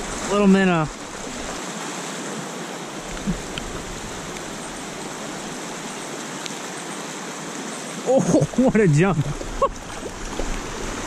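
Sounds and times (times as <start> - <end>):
water flowing over rocks: 0.0 - 11.0.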